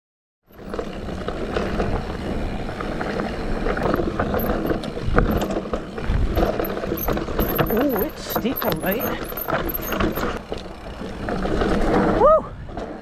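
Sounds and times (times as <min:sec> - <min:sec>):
bike rattling and knocking: 0:00.5 - 0:13.0
bike tyres rumbling on dirt trail: 0:00.5 - 0:13.0.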